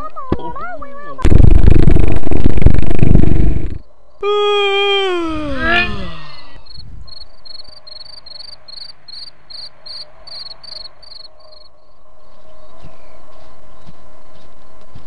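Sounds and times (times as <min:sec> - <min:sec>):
crickets chirping: 0:01.3 - 0:15.0.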